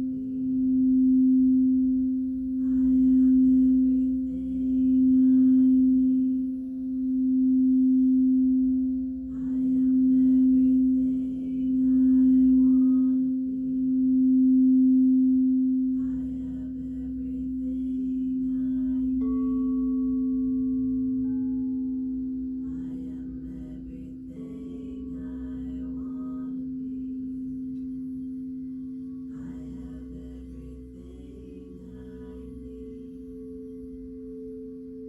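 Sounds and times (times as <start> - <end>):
singing bowl low tone: 0.0 - 35.0.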